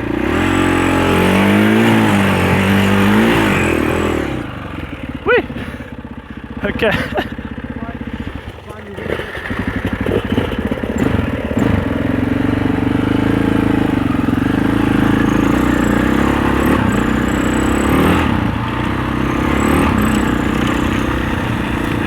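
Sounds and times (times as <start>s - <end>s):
dirt bike engine under load: 0.0s - 22.0s.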